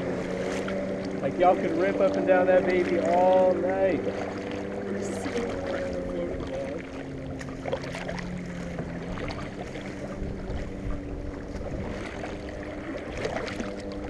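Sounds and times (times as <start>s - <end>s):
jet ski engine droning: 0.0s - 14.0s
kayak paddle splashing: 0.0s - 14.0s
wind rumble on microphone: 0.0s - 14.0s.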